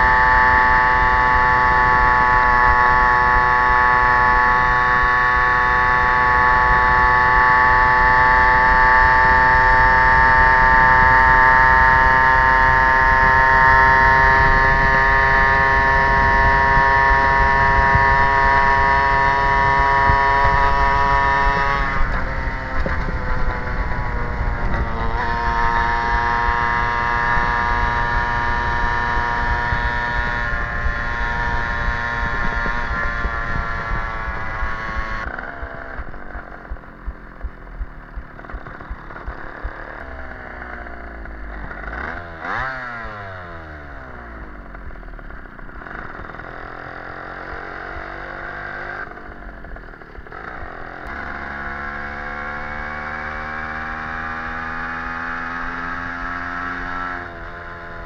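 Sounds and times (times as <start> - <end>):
moped engine running: 0.0 - 58.0.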